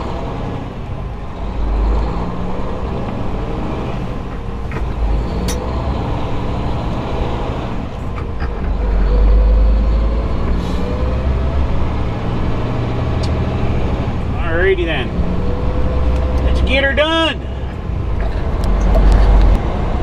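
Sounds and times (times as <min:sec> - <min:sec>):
diesel truck engine accelerating: 0:00.0 - 0:20.0.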